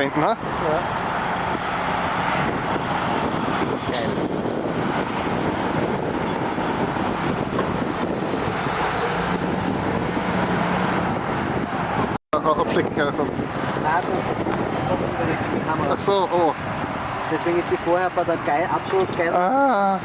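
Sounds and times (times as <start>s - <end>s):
road traffic rushing: 0.0s - 20.0s
wind: 0.0s - 20.0s.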